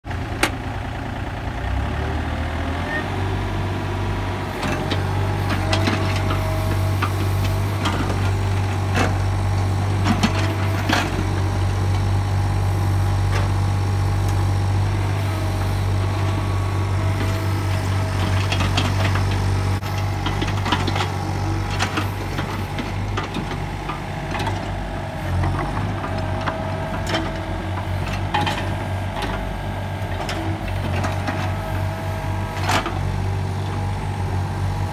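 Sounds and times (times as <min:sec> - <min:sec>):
excavator diesel engine: 0:00.0 - 0:34.9.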